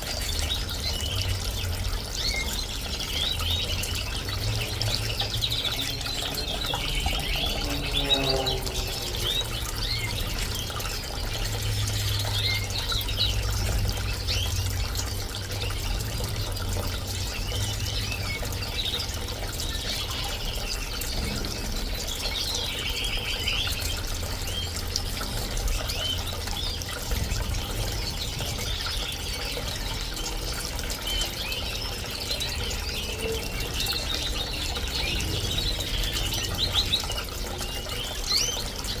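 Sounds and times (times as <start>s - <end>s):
birds chirping and trilling: 0.0s - 39.0s
fountain water flowing: 0.0s - 39.0s.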